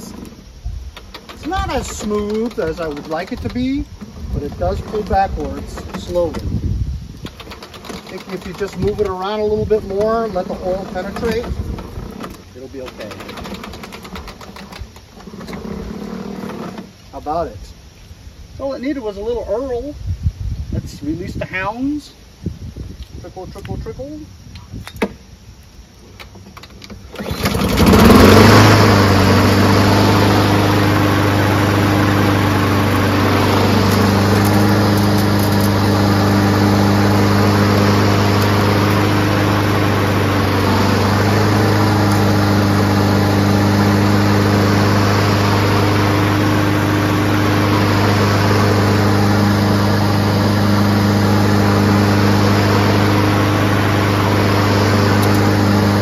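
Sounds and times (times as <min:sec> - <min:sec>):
lawnmower engine running: 0:00.0 - 0:17.5, 0:25.9 - 0:56.0.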